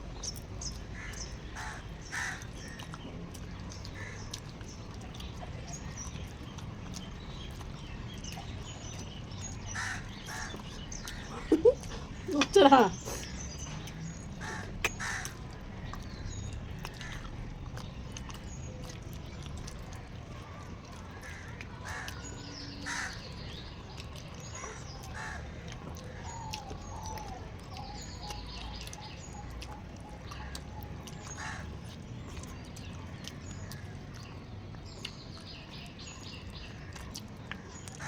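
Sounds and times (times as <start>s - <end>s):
birds cawing and chirping: 0.0s - 38.0s.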